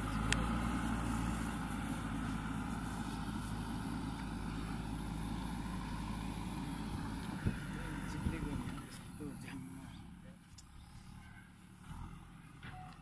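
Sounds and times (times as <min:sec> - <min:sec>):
distant backhoe diesel engine: 0:00.0 - 0:13.0.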